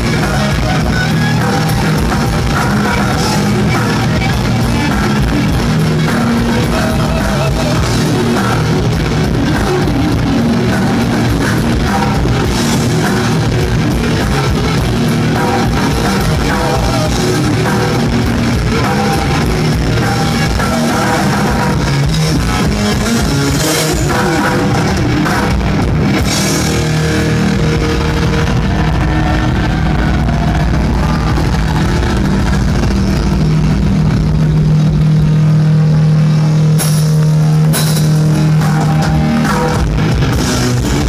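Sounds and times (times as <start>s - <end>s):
bass guitar: 0.0s - 41.0s
distorted electric guitar: 0.0s - 41.0s
drum kit: 0.0s - 41.0s.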